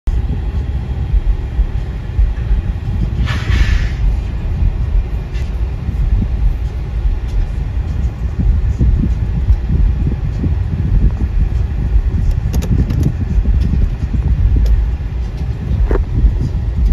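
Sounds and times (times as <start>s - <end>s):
diesel locomotives rumbling: 0.1s - 16.9s.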